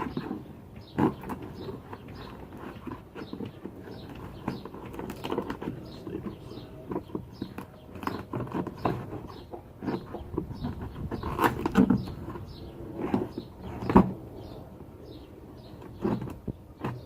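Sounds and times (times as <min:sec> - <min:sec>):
cardboard box rustling and scraping: 0:00.0 - 0:17.0.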